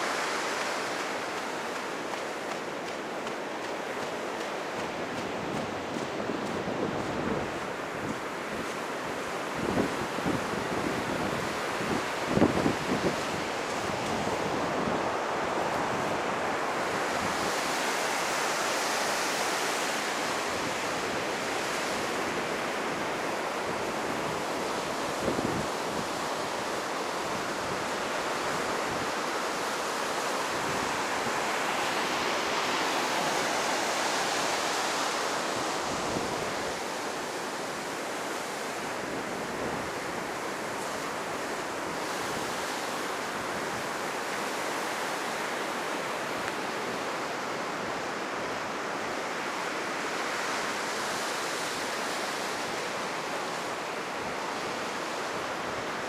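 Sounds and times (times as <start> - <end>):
heavy surf breaking on beach: 0.0 - 56.0.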